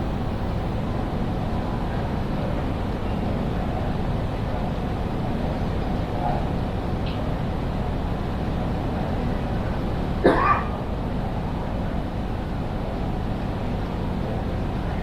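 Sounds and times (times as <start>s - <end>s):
railway station hall rumble: 0.0s - 15.0s.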